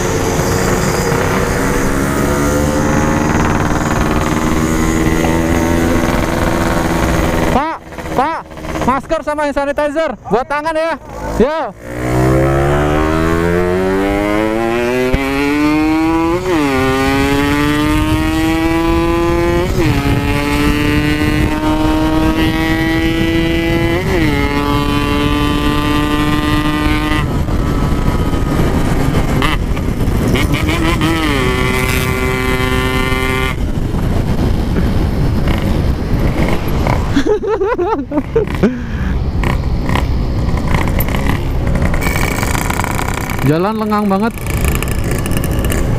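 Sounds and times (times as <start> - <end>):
two-stroke motorcycle engine revving: 0.0 - 10.0, 11.0 - 37.2, 38.0 - 45.9.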